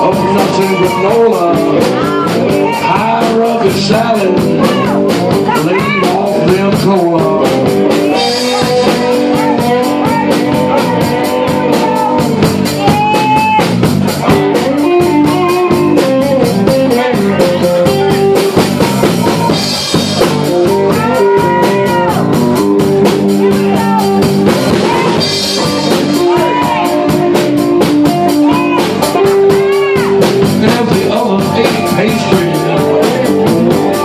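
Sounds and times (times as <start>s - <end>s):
drum kit: 0.0s - 34.0s
electric guitar: 0.0s - 34.0s.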